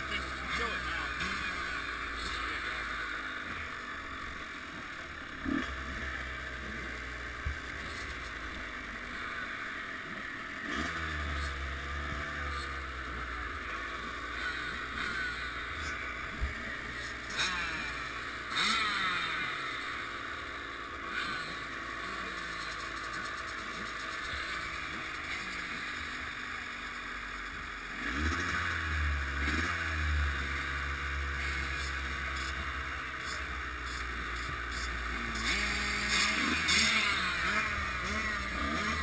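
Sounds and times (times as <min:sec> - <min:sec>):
dirt bike engines idling: 0:00.0 - 0:39.0.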